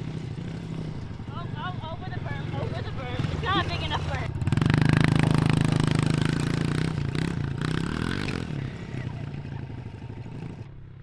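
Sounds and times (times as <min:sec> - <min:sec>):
pit bike engine running: 0:00.0 - 0:10.8.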